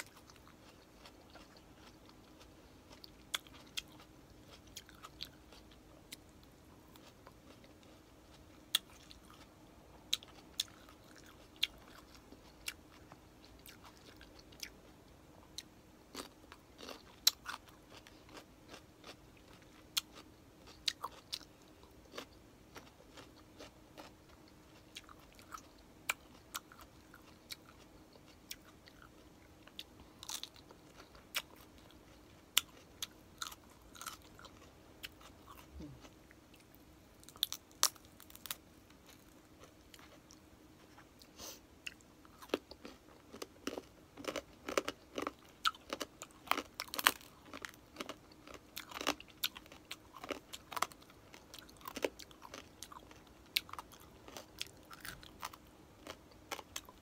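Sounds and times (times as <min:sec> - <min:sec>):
chewing crispy food: 0:00.0 - 0:57.0.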